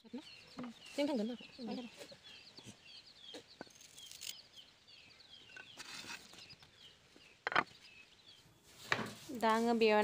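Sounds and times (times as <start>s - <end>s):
chicks peeping: 0.0s - 8.5s.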